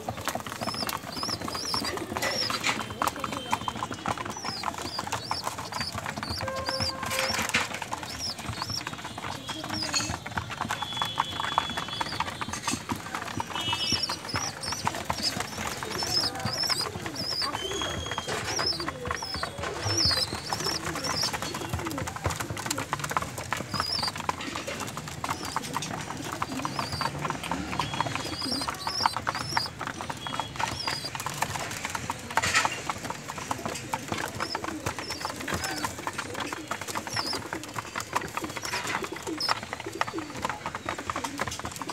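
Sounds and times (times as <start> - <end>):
pigeons pecking grain: 0.0 - 41.9.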